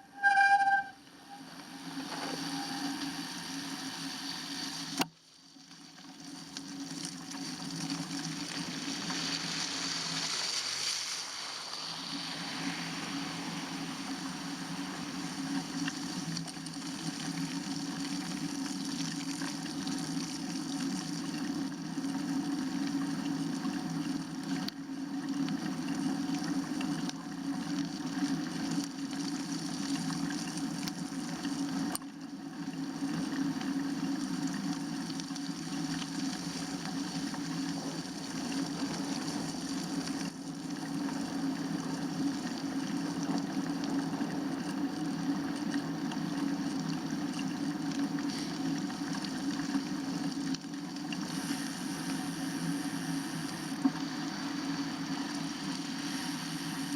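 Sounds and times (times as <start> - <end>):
bicycle tyres on slush: 0.0 - 56.9.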